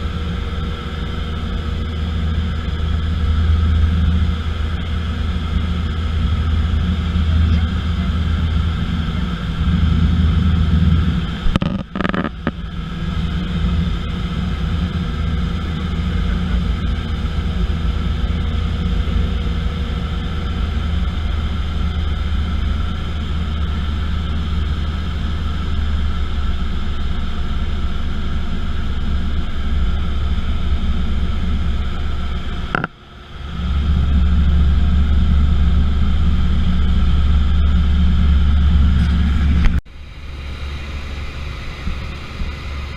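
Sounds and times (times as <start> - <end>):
aeroplane engine drone: 0.0 - 42.9.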